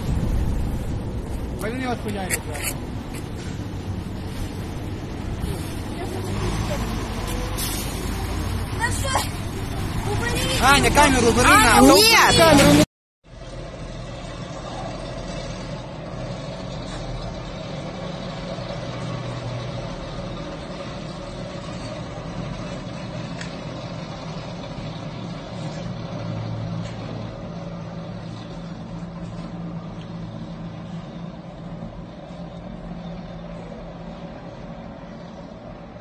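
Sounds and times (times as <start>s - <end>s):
vehicles driving past: 0.0s - 36.0s.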